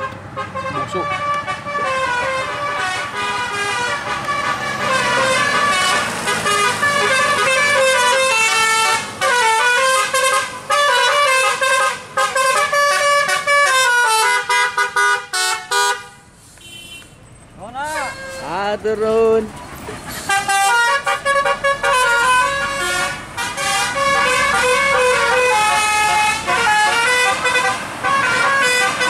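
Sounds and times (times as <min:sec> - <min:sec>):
musical air horns melody: 0:00.0 - 0:17.0, 0:20.1 - 0:29.0.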